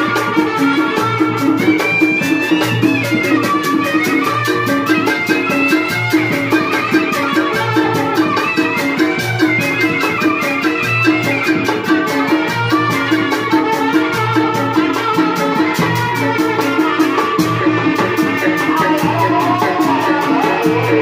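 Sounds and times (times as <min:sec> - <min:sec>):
drums fast steady beat: 0:00.0 - 0:21.0
melody of held notes: 0:00.0 - 0:21.0.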